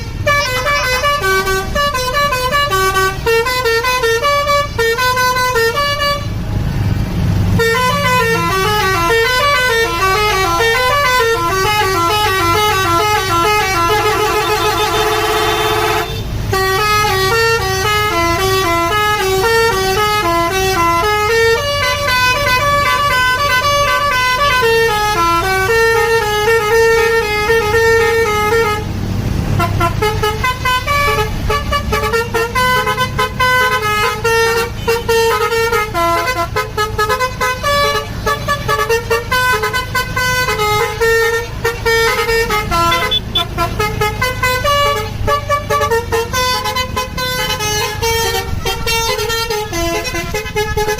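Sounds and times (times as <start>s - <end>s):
bus musical horn melody: 0.0s - 6.5s, 7.5s - 50.9s.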